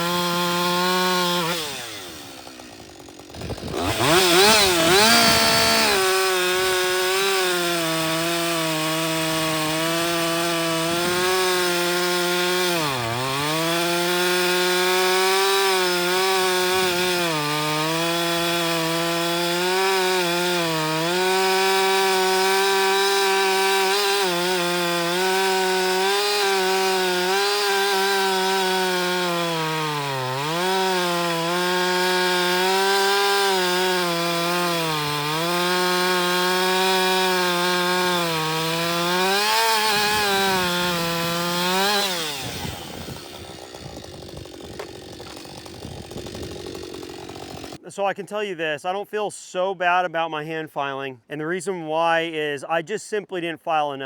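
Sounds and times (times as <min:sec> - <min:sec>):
chainsaw cutting through log: 0:00.0 - 0:48.0.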